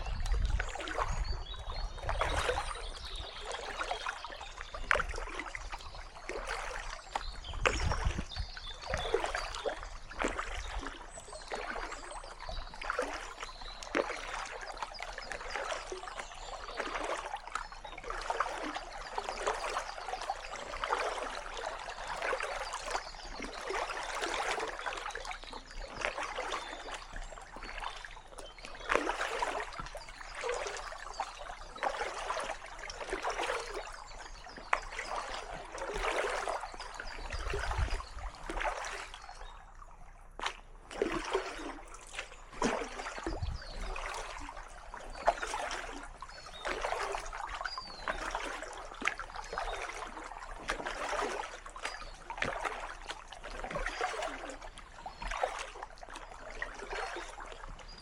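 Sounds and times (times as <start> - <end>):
paddle strokes splashing: 0.0 - 58.0.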